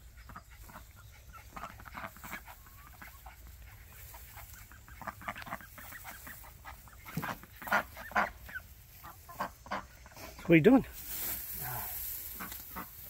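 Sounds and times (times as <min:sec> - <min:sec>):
ducks quacking: 0:00.0 - 0:10.8, 0:12.2 - 0:13.0
hens clucking: 0:00.0 - 0:13.0.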